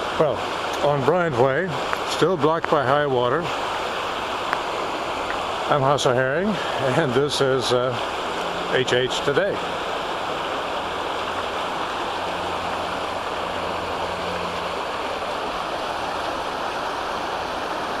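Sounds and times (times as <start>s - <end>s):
floodwater rushing across road: 0.0s - 18.0s.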